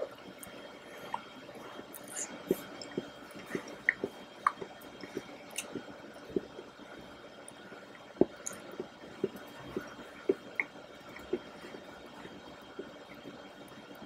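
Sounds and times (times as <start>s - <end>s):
wet chewing of cake: 0.3s - 14.0s.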